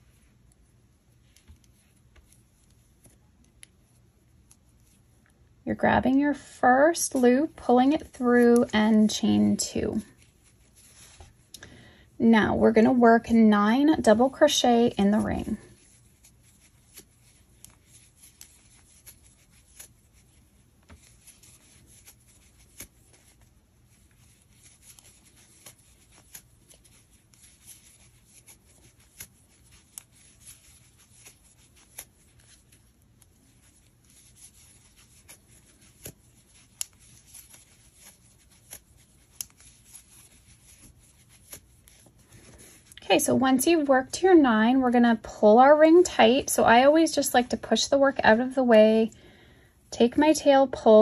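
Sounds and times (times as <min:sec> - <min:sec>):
soft rubbing of yarn: 0:00.0 - 0:11.5, 0:12.1 - 0:49.2.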